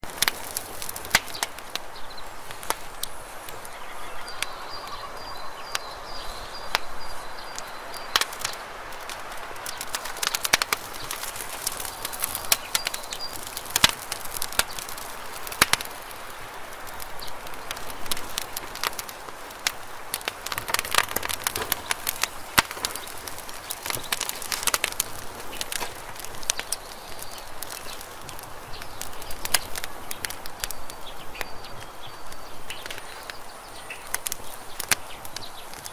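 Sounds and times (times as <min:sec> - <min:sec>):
campfire crackling and popping: 0:00.0 - 0:35.9
soft hiss of burning: 0:00.0 - 0:35.9.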